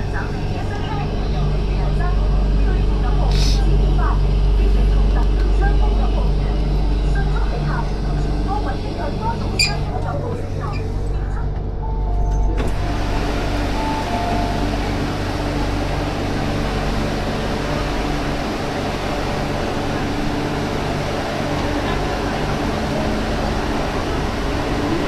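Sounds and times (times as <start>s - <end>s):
train cabin rumble and hiss: 0.0s - 11.8s, 12.4s - 25.0s.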